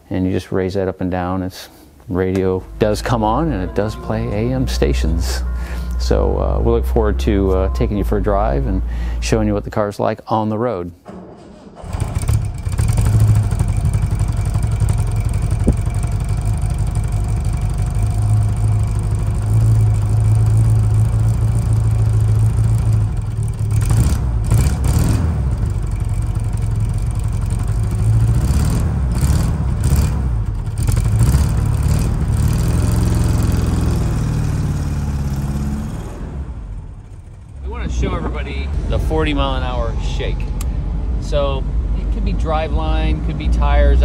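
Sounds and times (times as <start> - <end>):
car engine droning: 2.0 - 10.1, 11.4 - 44.0.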